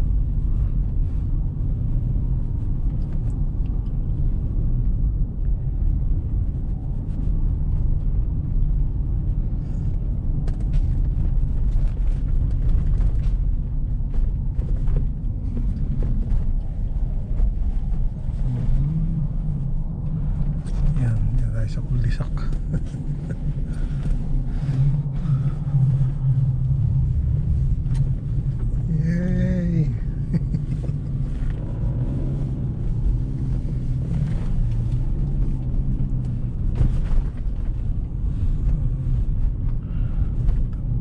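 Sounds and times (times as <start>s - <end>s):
car driving through snow: 5.8s - 41.0s.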